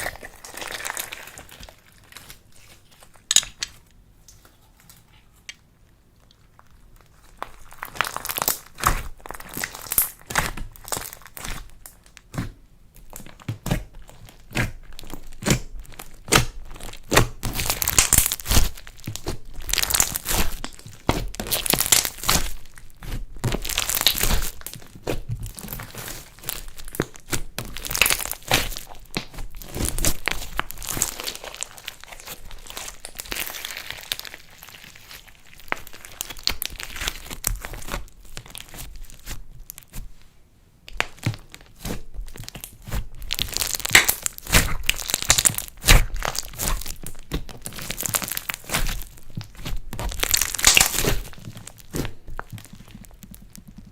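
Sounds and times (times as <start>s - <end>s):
slime squishing with sticky pops: 0.0s - 4.4s, 5.5s - 40.2s, 40.8s - 53.9s.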